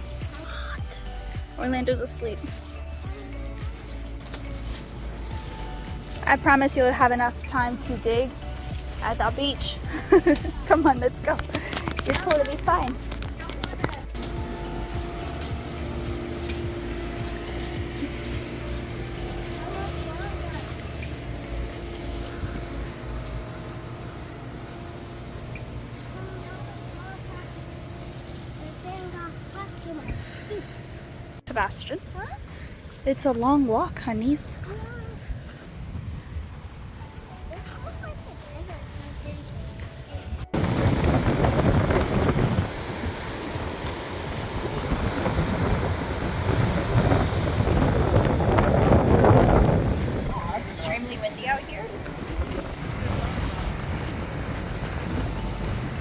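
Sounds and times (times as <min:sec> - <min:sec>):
insects trilling: 0:00.0 - 0:32.0, 0:40.5 - 0:56.0
wind rumbling on microphone: 0:00.0 - 0:56.0.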